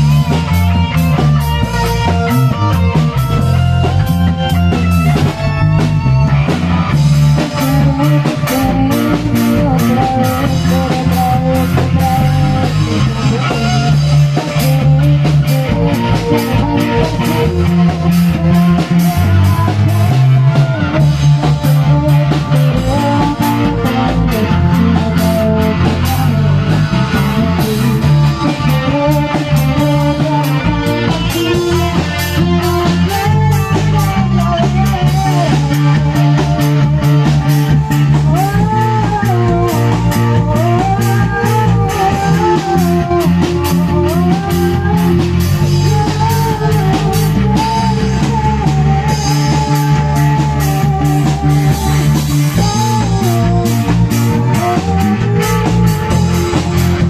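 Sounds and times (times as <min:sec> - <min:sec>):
drum kit beat: 0:00.0 - 0:57.0
electric bass: 0:00.0 - 0:57.0
electric guitar: 0:00.0 - 0:57.0
keyboard: 0:00.0 - 0:57.0.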